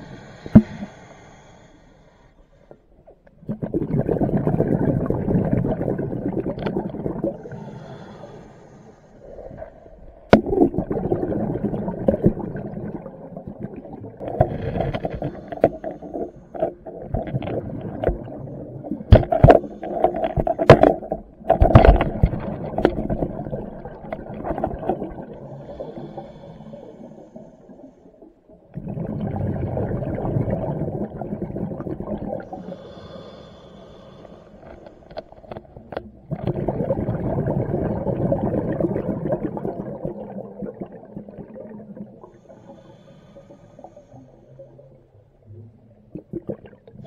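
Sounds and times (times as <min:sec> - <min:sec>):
exhaled bubbles gurgling: 0:03.3 - 0:08.4, 0:09.2 - 0:33.2, 0:34.5 - 0:47.0.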